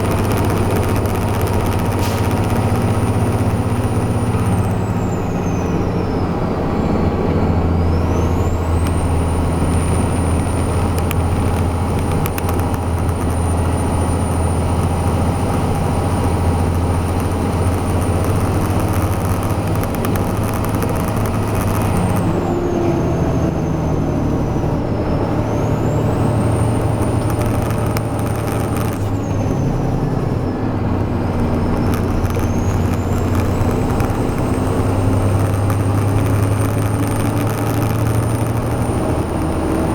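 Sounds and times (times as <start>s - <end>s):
high whine: 0.0s - 6.4s, 7.7s - 23.6s, 25.2s - 39.9s
truck diesel engine running: 0.0s - 39.9s.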